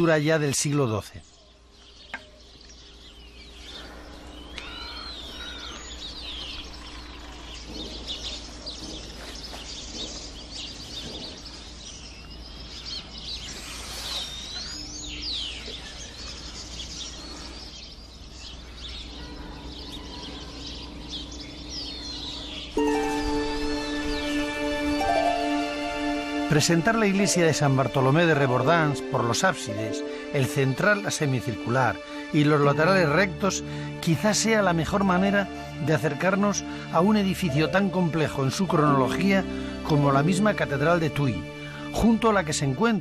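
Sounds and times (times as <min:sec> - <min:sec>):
birds chirping and singing: 0:00.0 - 0:43.0.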